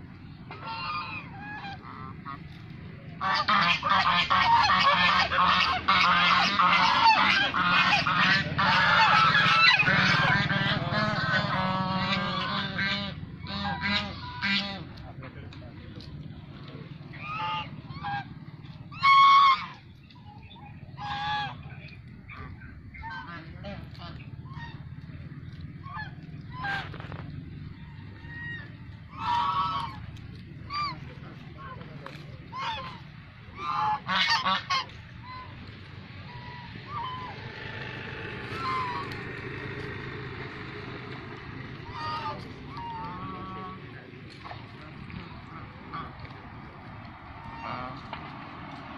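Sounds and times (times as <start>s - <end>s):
geese honking: 0.0s - 48.9s
low background rumble: 0.0s - 48.9s.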